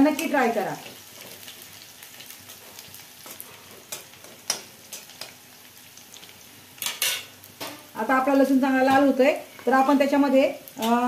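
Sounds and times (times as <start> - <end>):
chillies and garlic sizzling in oil: 0.0 - 11.0.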